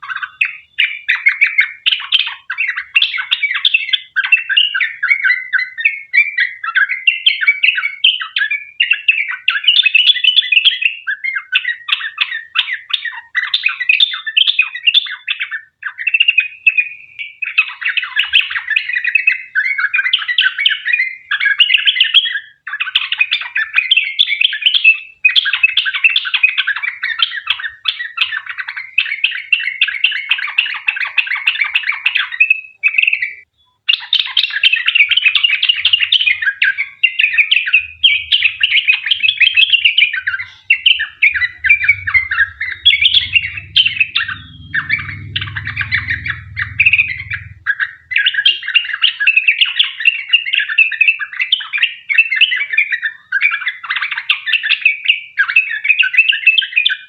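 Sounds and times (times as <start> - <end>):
bird singing rolling chatter: 0.0 - 57.0.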